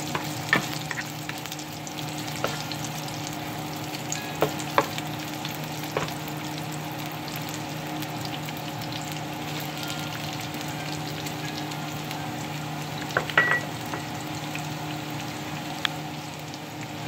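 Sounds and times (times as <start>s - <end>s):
bacon and onion frying: 0.0s - 17.0s.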